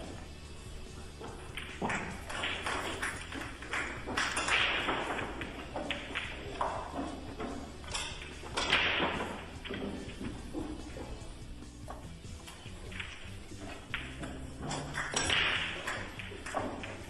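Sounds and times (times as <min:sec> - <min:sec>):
billiard balls knocking together: 0:00.0 - 0:17.0
pool cue striking ball: 0:00.0 - 0:17.0.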